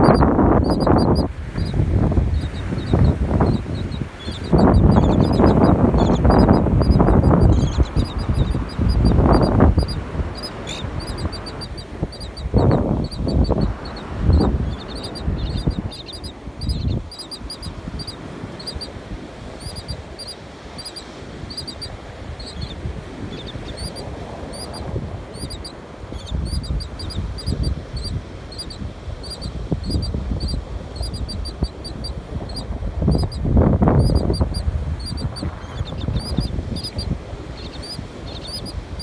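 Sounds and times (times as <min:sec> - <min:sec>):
bird chirping rapidly: 0:00.0 - 0:18.9, 0:19.6 - 0:33.4, 0:34.0 - 0:38.8
low wind noise: 0:00.0 - 0:39.0.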